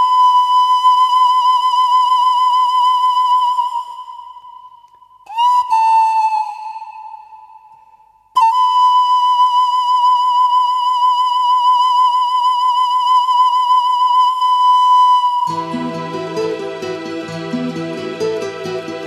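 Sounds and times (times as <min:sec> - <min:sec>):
flute-like melody: 0:00.0 - 0:19.0.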